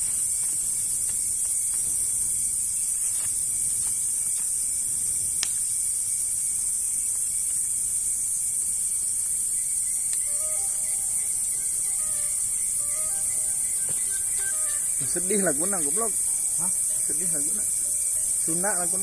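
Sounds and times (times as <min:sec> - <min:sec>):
insect chorus shrilling: 0:00.0 - 0:19.0.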